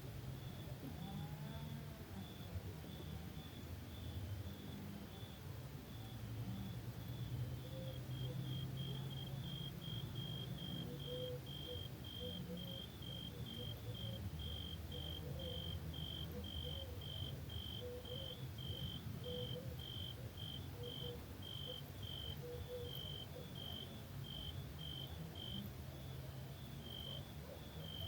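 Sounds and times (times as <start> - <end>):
cricket chirping: 0.4 - 28.0.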